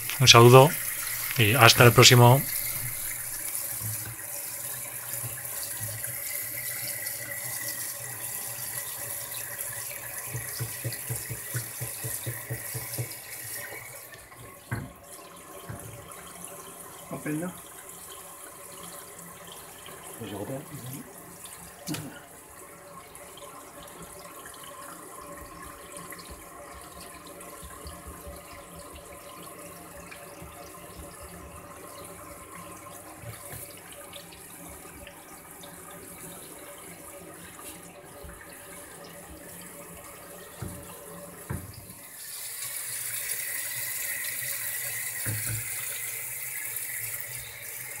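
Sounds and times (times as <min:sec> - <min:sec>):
tap water running into steel sink: 0:00.0 - 0:48.0.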